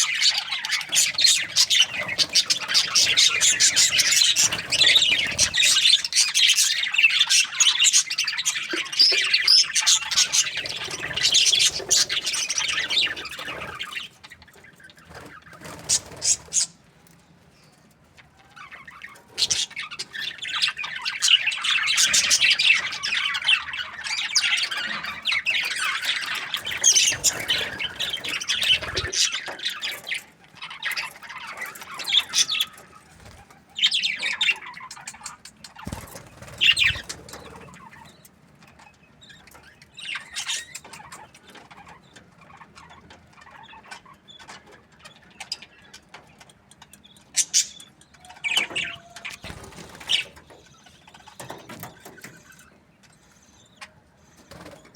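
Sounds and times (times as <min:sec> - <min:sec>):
budgerigars chirping: 0:00.0 - 0:16.9, 0:17.6 - 0:54.9.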